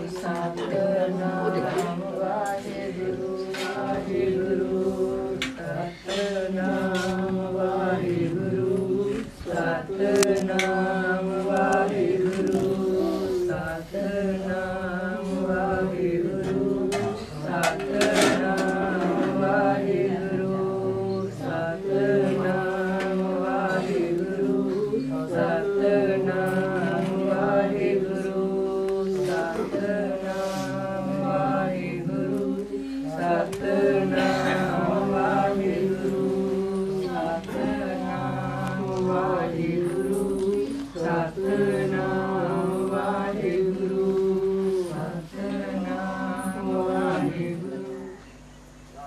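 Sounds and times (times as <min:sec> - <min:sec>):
men singing a hymn: 0:00.0 - 0:48.5.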